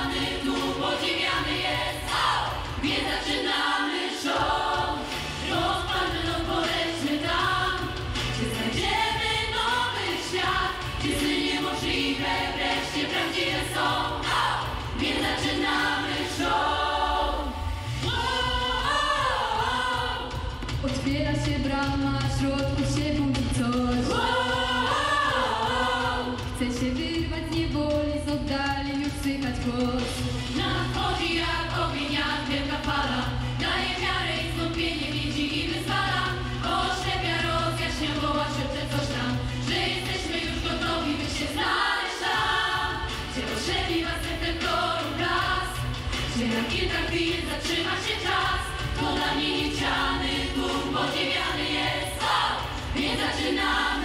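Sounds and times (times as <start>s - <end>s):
vocal group singing: 0.0s - 27.8s, 29.0s - 54.0s
amplified backing with bass: 0.0s - 54.0s.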